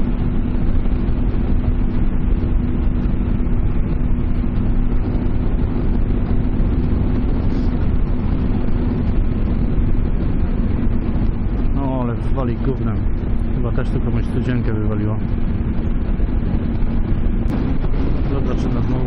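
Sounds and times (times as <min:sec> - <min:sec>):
motorcycle engine droning: 0:00.0 - 0:19.0
wind rumble on microphone: 0:00.0 - 0:19.0.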